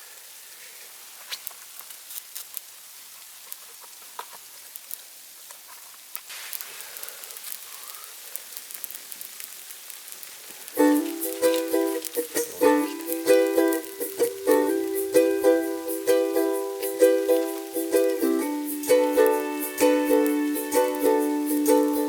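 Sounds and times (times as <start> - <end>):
steady fire hiss: 0.0 - 22.0
campfire crackling and popping: 1.1 - 22.0.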